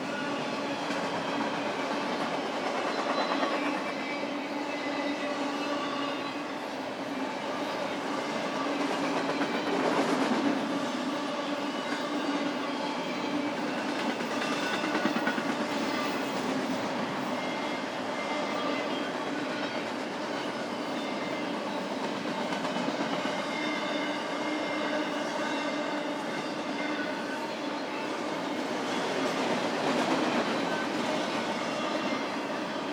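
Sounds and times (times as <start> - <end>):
train wheels on rails: 0.0 - 32.9.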